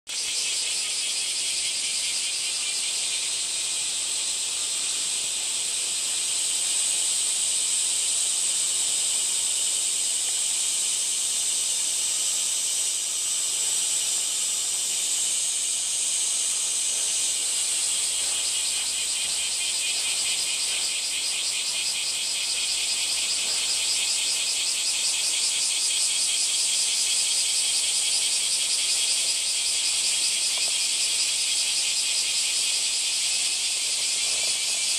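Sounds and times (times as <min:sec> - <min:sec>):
cicadas singing: 0:00.1 - 0:34.9.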